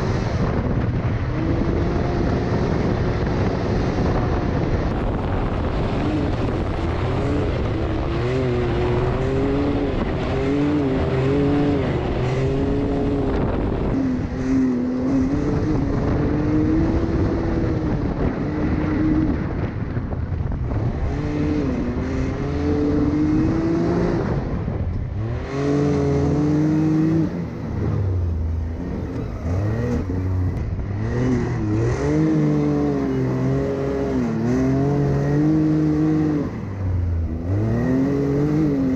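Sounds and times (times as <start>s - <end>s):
engine revving: 0.0s - 38.9s
wind noise: 0.0s - 38.9s.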